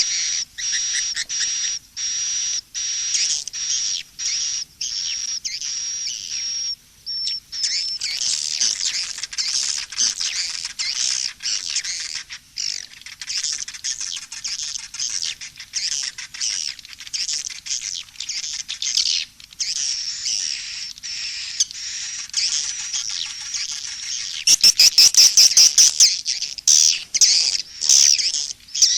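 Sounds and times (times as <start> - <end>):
swiftlets chirping and twittering: 0.0 - 28.9.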